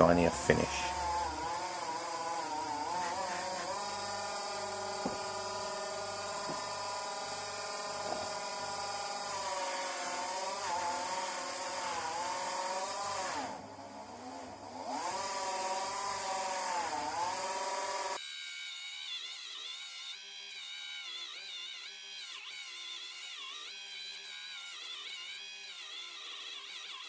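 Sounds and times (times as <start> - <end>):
polishing wheel motor whining: 0.0 - 18.2, 18.9 - 27.0.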